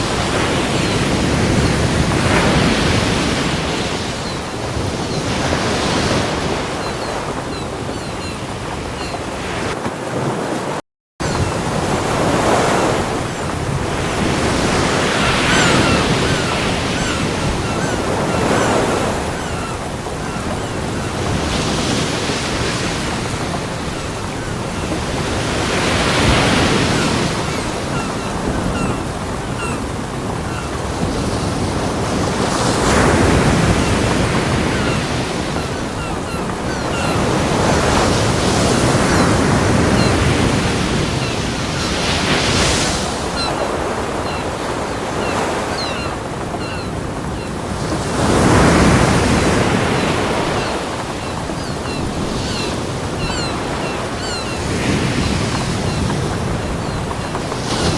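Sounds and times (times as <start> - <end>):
ocean waves breaking: 0.0 - 57.9.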